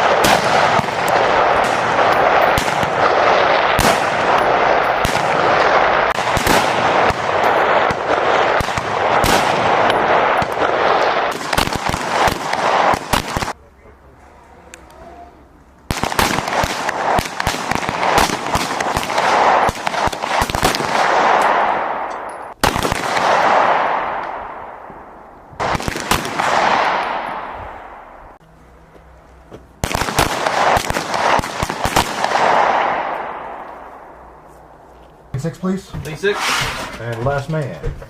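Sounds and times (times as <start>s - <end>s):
gunshots with rolling echo: 0.0s - 13.6s, 15.9s - 28.4s, 29.8s - 34.4s.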